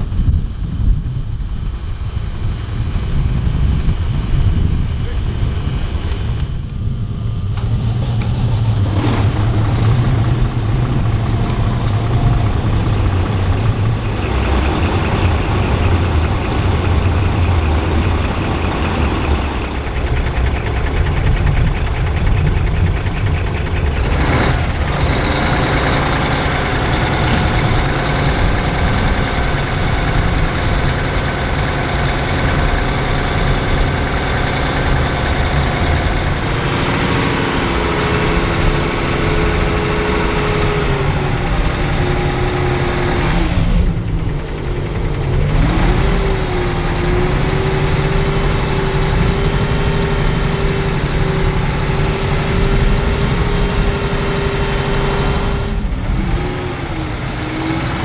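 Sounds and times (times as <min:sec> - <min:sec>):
truck diesel engine running: 0:00.0 - 0:58.0
whining tone: 0:00.0 - 0:58.0.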